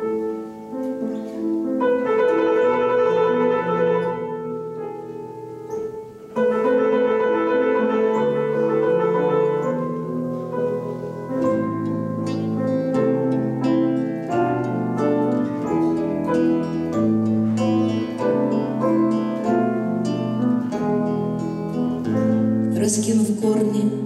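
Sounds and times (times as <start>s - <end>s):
mandolin: 0.0s - 24.0s
piano: 0.0s - 24.0s.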